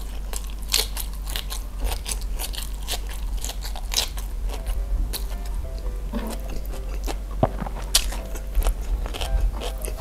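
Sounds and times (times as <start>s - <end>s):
steady low hum: 0.0s - 10.0s
wet crunchy chewing: 0.0s - 10.0s.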